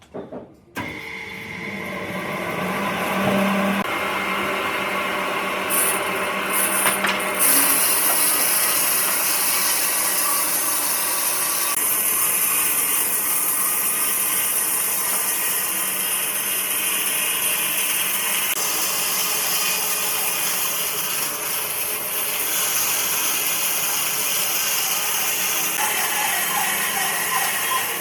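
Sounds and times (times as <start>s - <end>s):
power tool whirring on wood: 0.8s - 28.0s.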